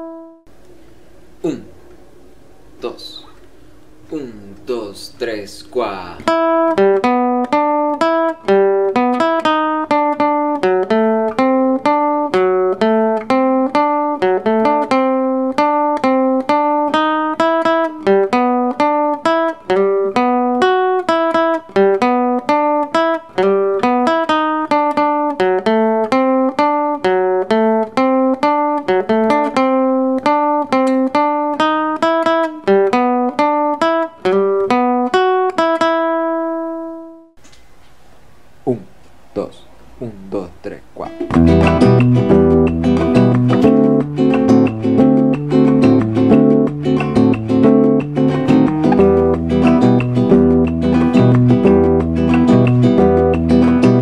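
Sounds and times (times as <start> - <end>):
classical guitar plucking: 0.0 - 0.6, 5.6 - 37.4, 41.0 - 54.0.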